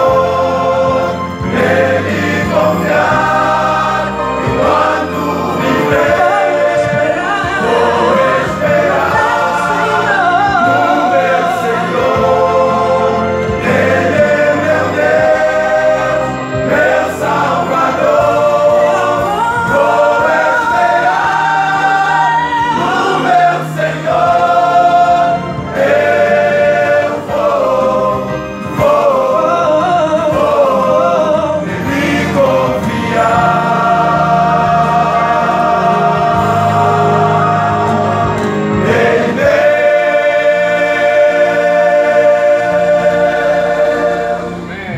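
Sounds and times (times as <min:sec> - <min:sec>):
men's choir singing in harmony: 0:00.0 - 0:44.9.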